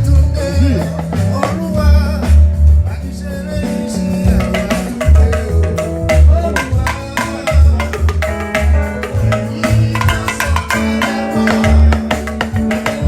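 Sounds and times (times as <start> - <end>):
church band instrumental music: 0.0 - 13.0
heavy low drum hits: 0.0 - 13.0.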